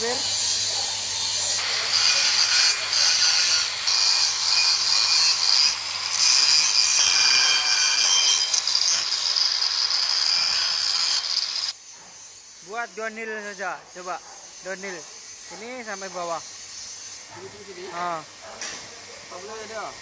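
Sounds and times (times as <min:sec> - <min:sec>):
angle grinder grinding steel: 0:00.0 - 0:17.3.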